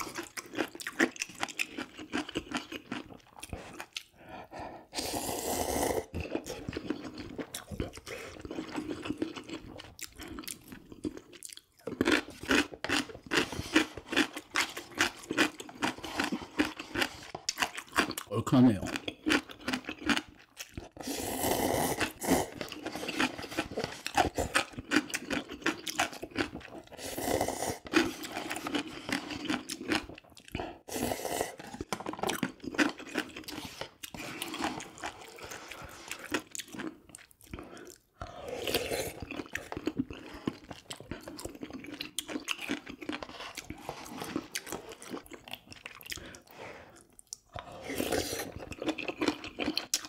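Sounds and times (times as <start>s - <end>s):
chewing and crunching: 0.0s - 5.1s, 5.7s - 50.0s.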